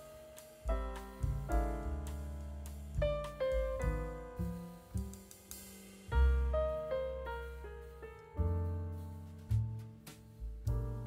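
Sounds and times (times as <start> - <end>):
piano notes: 0.0 - 11.0
low bass line: 0.7 - 11.0.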